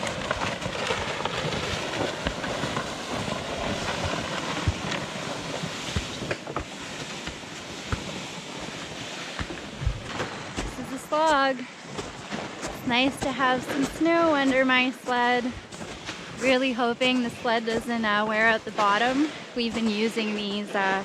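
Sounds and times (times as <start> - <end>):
sled scraping over snow: 0.0 - 21.0.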